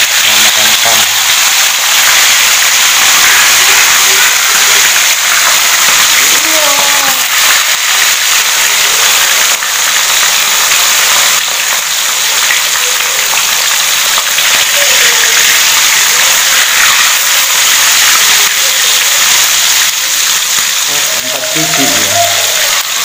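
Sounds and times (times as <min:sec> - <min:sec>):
fish deep-frying in oil: 0:00.0 - 0:23.0.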